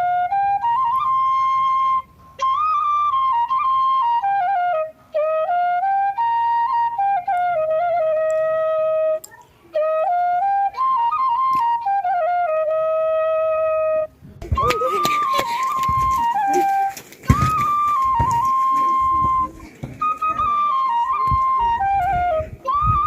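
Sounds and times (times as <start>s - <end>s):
flute melody: 0.0s - 23.0s.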